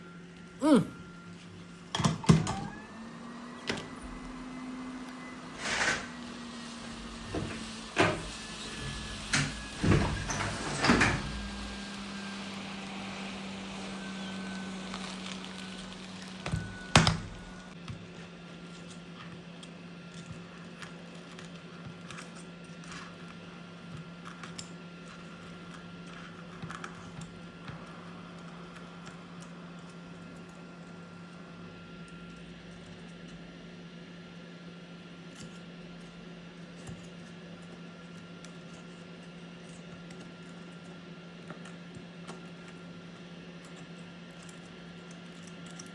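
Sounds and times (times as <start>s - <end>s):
low machine hum: 0.0s - 45.9s.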